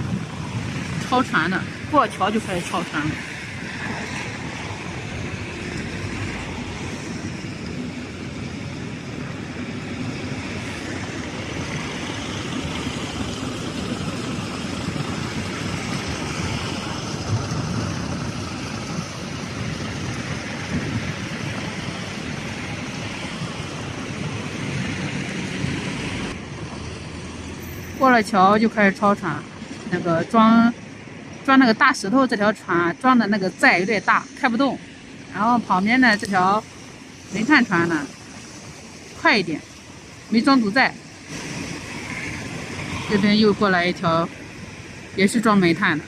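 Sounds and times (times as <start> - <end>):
ship diesel engines running: 0.0 - 46.0.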